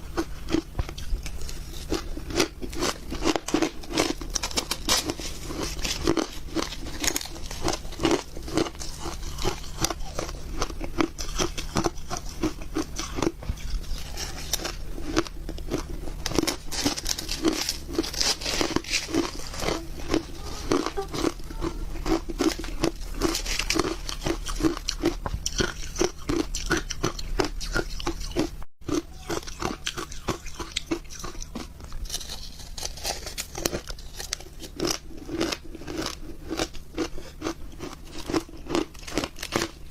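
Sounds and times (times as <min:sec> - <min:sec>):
ice crunching between teeth: 0:00.2 - 0:39.9.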